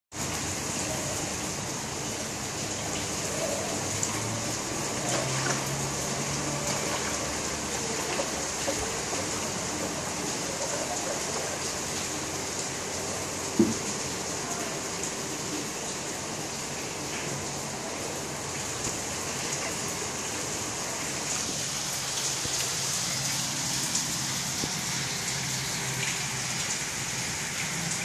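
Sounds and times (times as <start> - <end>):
steady rain: 0.1 - 28.0.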